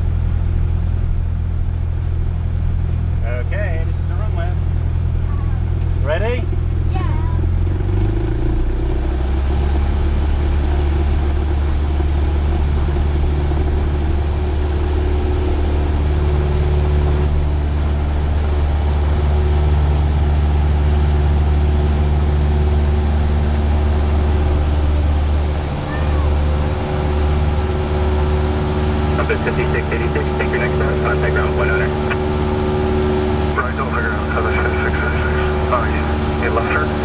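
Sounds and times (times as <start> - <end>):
aircraft engine and propeller drone: 0.0 - 37.0.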